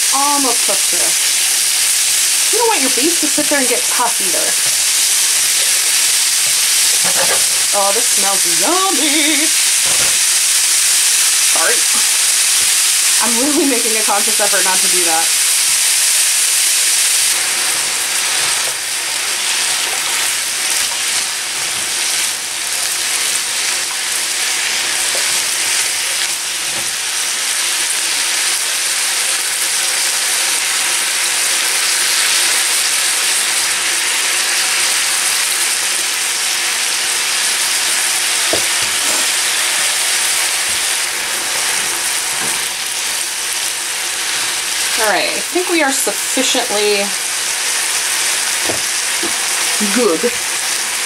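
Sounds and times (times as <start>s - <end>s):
food sizzling in a frying pan: 0.0s - 51.0s.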